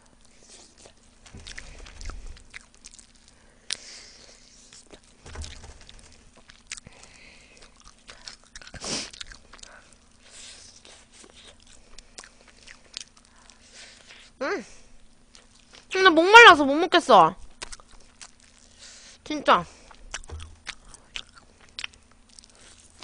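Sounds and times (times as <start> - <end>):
close-up chewing and crunching: 0.0 - 5.2, 6.1 - 14.4, 15.0 - 16.0, 17.4 - 19.2, 19.8 - 23.0.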